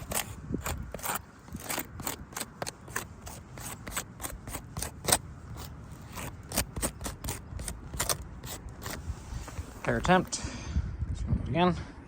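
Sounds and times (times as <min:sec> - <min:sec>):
handling scrapes and clicks: 0:00.0 - 0:10.3.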